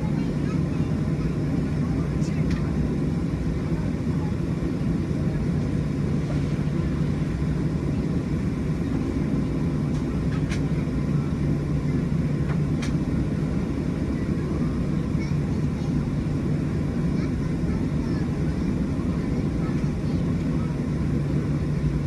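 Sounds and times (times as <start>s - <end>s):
airliner cabin engine hum: 0.0s - 22.0s.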